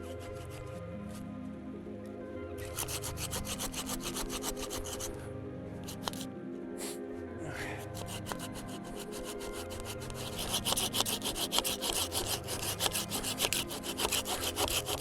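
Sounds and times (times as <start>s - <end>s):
hand saw cutting wood: 0.0s - 1.2s, 2.6s - 5.2s, 5.8s - 7.0s, 7.8s - 15.0s.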